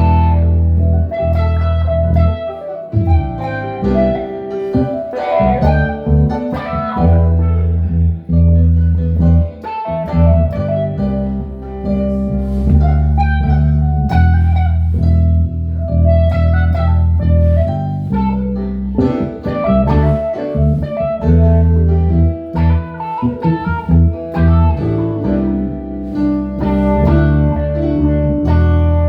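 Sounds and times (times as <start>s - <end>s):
guitar plucked notes: 0.0s - 29.0s
low bass notes: 0.0s - 29.0s.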